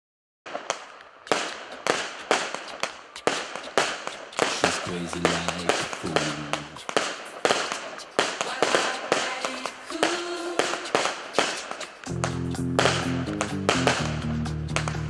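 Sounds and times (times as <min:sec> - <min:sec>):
sharp cracks and bangs: 0:00.5 - 0:15.0
noisy hiss: 0:00.8 - 0:15.0.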